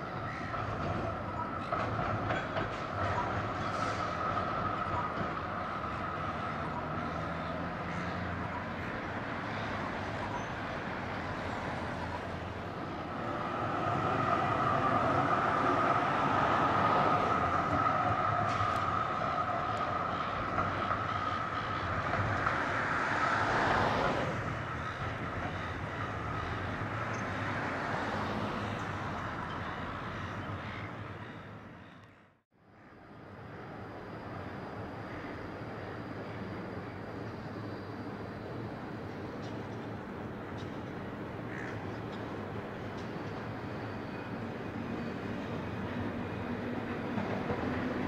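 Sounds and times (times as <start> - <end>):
tram running on rails: 0.0 - 48.0.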